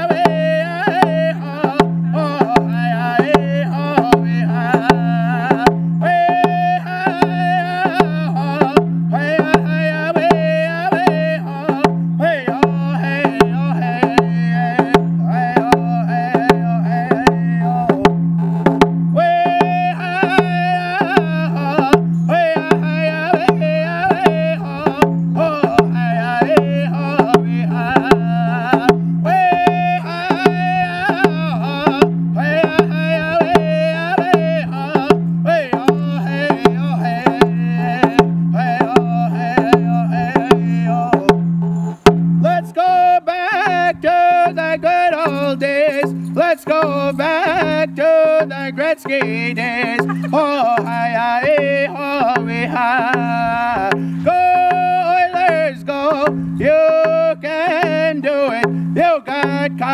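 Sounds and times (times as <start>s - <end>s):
man singing high-pitched: 0.0s - 41.5s, 42.4s - 59.9s
hand drum steady beat: 0.0s - 59.9s.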